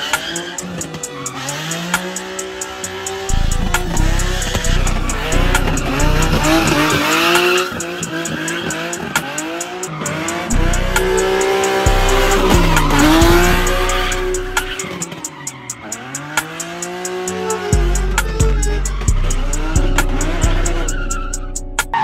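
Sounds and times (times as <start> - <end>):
car engine revving: 0.0 - 22.0
music with steady beat: 0.0 - 22.0
tyres squealing: 0.0 - 22.0.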